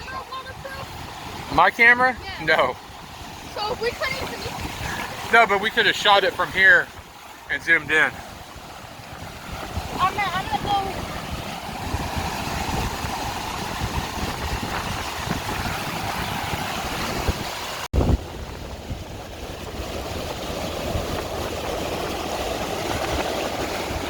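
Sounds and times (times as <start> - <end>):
ocean surf washing in: 0.0 - 24.0
wind rumbling on microphone: 0.0 - 24.0.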